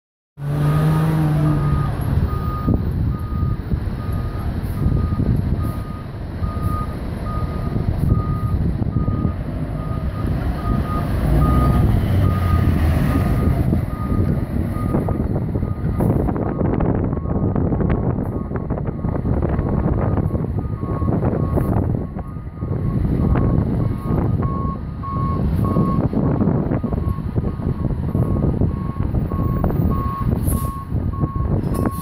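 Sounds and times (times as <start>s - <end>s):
diesel engine rumble: 0.4s - 32.0s
reversing alarm beeps: 0.7s - 12.7s, 13.4s - 17.6s, 20.1s - 26.1s, 26.8s - 32.0s.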